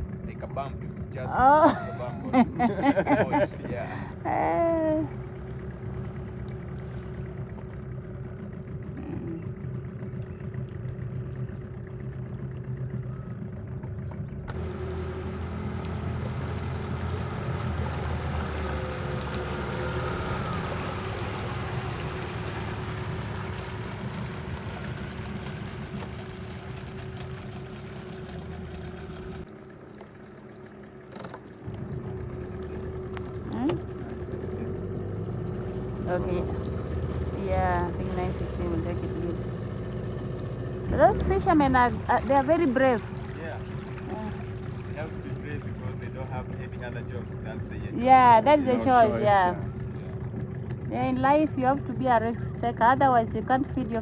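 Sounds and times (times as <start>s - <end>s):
motorboat engine running: 0.0s - 54.0s.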